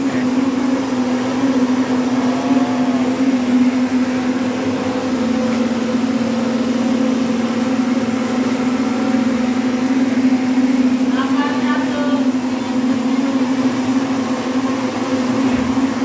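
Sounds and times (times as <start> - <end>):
blender motor running: 0.0 - 16.0.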